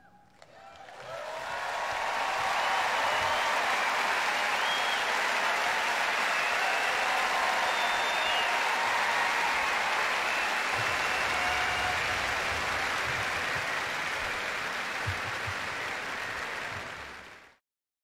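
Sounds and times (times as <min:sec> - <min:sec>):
large audience applauding: 0:00.3 - 0:17.6.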